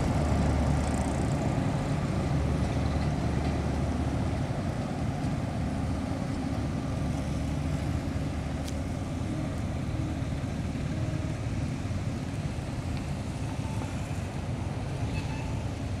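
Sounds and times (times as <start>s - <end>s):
passenger train rumbling: 0.0s - 16.0s
road traffic noise: 0.0s - 16.0s.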